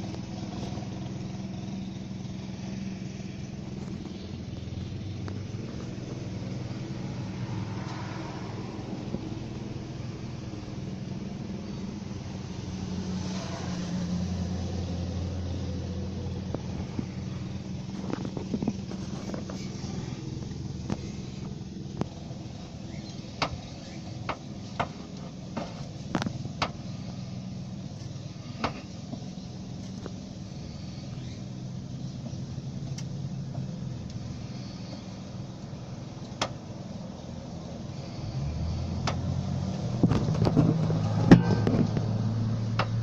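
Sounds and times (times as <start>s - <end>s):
car engine humming: 0.0s - 43.0s.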